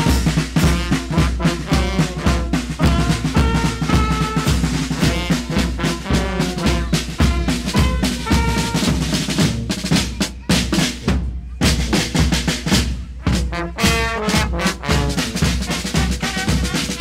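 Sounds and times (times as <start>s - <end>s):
brass band playing a march: 0.0s - 17.0s
snare and bass drum beating: 0.0s - 17.0s.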